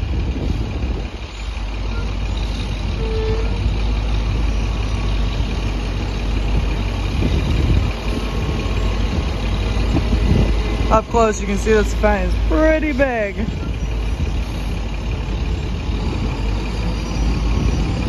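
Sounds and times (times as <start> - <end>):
tractor diesel engine rumbling: 0.0 - 18.0.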